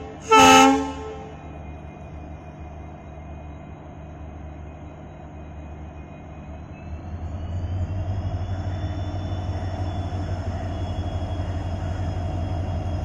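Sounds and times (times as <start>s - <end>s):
locomotive engine throttling up: 0.0s - 13.0s.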